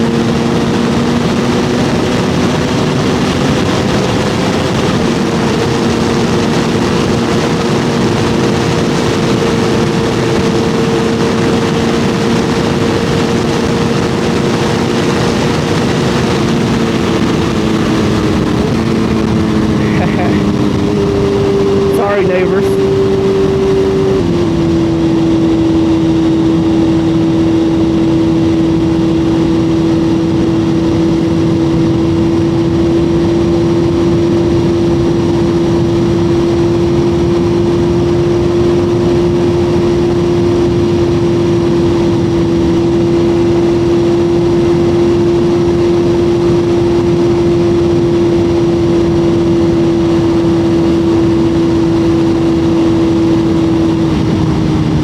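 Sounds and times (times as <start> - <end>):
motorcycle engine cruising: 0.0 - 55.0
wind rush over microphone: 0.0 - 55.0.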